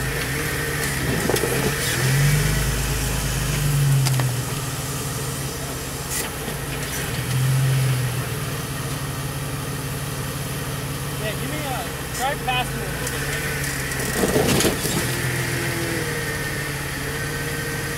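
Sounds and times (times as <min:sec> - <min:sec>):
engine idling and revving: 0:00.0 - 0:17.9.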